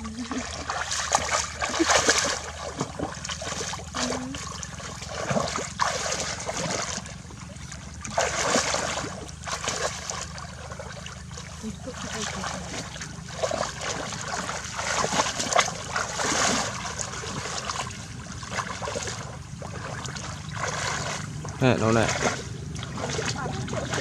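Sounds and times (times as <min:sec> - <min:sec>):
shallow water splashing: 0:00.0 - 0:24.0
water trickling: 0:00.0 - 0:24.0.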